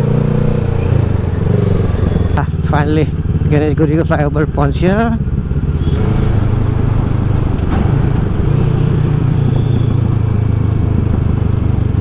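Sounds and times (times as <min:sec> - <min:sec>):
motorcycle engine running: 0:00.0 - 0:12.0
road noise: 0:00.0 - 0:12.0.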